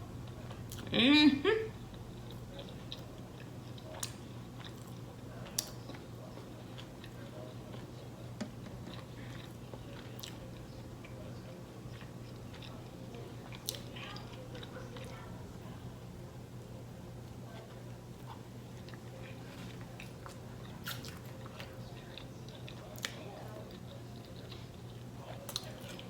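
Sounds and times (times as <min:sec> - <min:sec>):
person chewing food: 0:01.8 - 0:15.2, 0:17.6 - 0:26.0.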